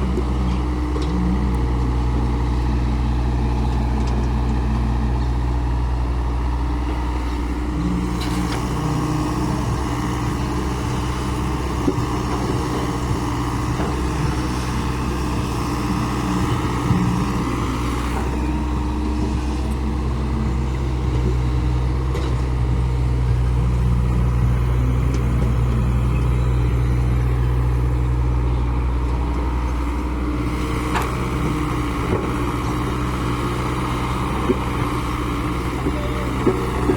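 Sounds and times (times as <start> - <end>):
heavy diesel machinery running: 0.0 - 36.9.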